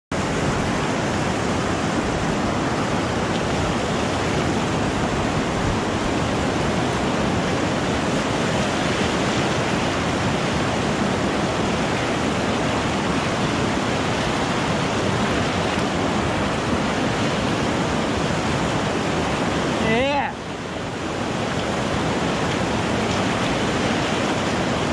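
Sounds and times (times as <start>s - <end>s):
river rapids rushing: 0.1s - 24.9s.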